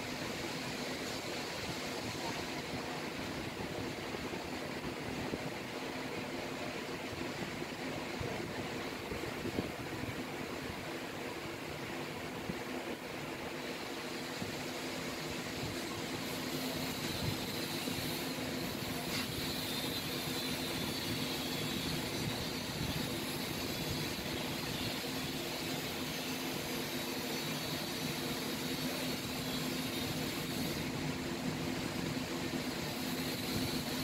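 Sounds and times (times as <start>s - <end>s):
hiss: 0.0s - 34.0s.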